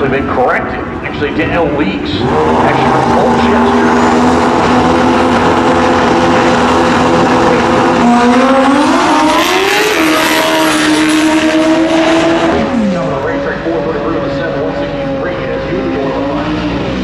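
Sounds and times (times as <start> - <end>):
drag bike engine revving: 0.0 - 17.0.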